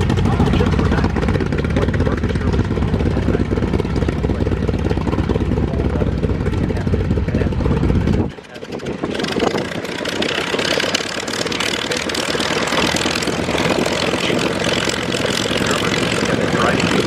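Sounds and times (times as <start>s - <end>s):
hissing engine and propeller: 0.0s - 17.0s
piston engine idling: 0.0s - 17.0s.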